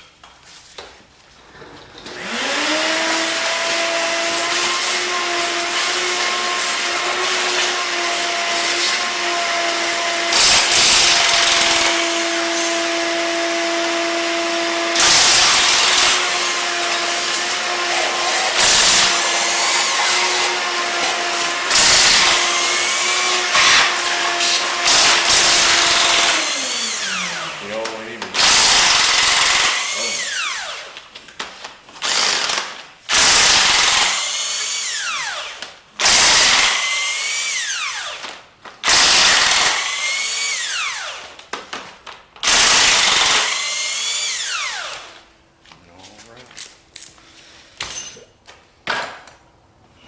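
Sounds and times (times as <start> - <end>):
power tool motor whining: 2.0 - 31.1, 32.0 - 41.4, 42.4 - 45.2.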